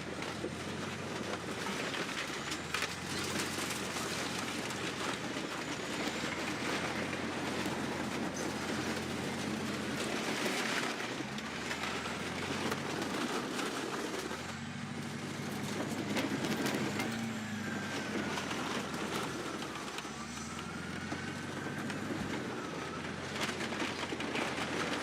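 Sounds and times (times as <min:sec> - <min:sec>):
bulldozer diesel engine under load: 0:00.0 - 0:25.0.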